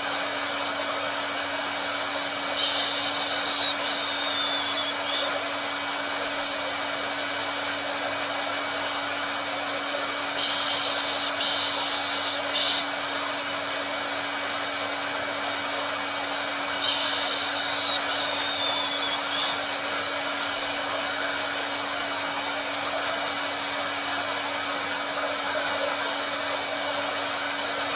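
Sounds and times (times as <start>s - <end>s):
hair dryer running: 0.0s - 27.9s.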